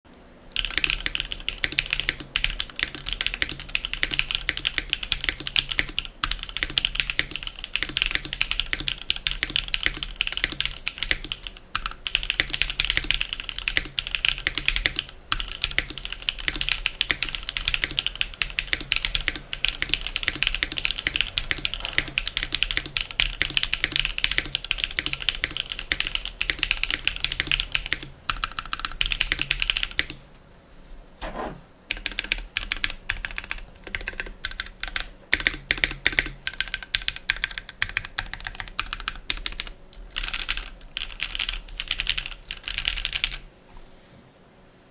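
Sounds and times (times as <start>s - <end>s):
fast mechanical keyboard typing: 0.5s - 30.2s, 31.9s - 43.4s.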